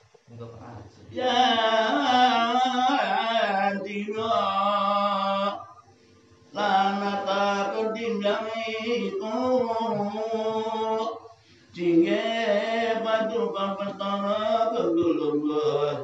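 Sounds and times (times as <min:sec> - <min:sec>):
man singing chant-like melody: 0:01.1 - 0:05.6, 0:06.6 - 0:16.0.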